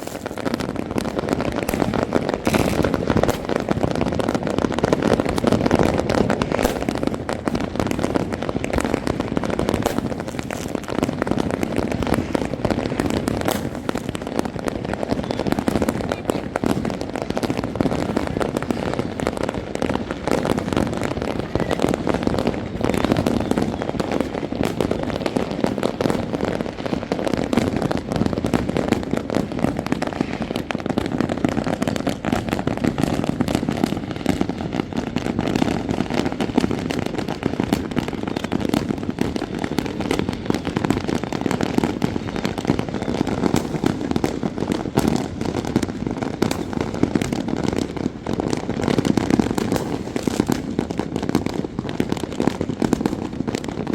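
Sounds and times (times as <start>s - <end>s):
fireworks crackling and banging: 0.0s - 53.9s.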